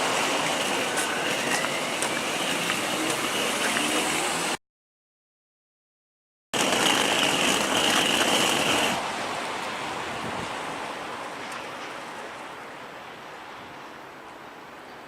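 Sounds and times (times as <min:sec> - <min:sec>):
rushing water: 0:00.0 - 0:04.6, 0:06.6 - 0:15.0.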